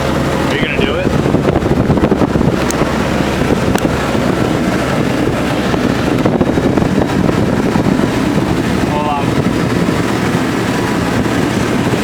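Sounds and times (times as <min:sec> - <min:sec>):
motorboat running at speed: 0:00.0 - 0:12.0
wind on microphone: 0:00.0 - 0:12.0.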